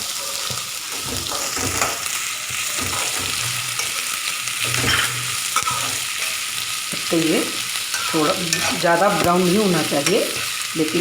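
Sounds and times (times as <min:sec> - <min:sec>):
onions sizzling in oil: 0:00.0 - 0:11.0
spoon scraping pan: 0:00.0 - 0:11.0.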